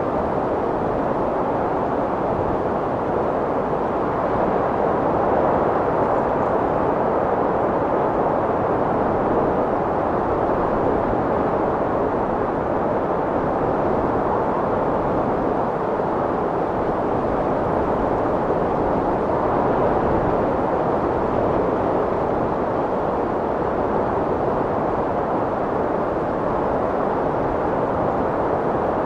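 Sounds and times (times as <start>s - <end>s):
strong wind blowing: 0.0s - 29.0s.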